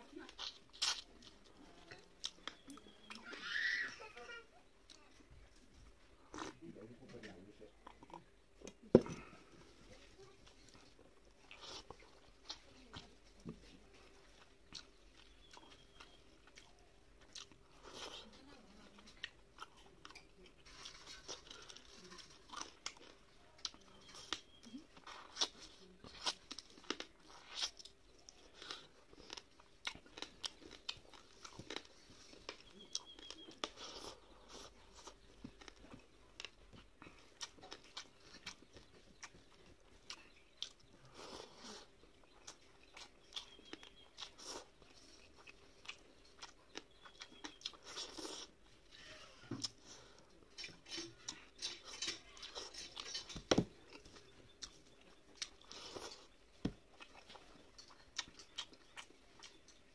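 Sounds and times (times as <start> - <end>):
chewing and mouth smacking: 0.1 - 3.3, 4.8 - 59.9.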